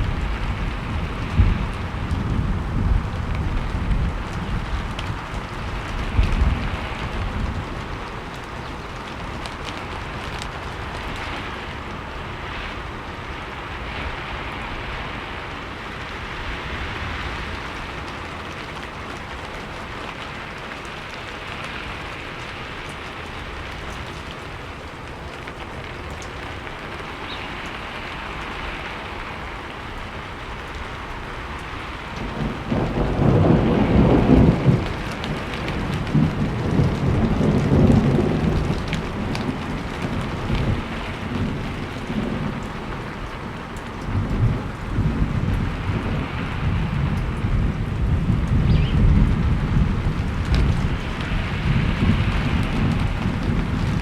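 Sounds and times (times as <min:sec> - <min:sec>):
steady rain falling: 0:00.0 - 0:54.0
thunder rumbling: 0:00.0 - 0:54.0.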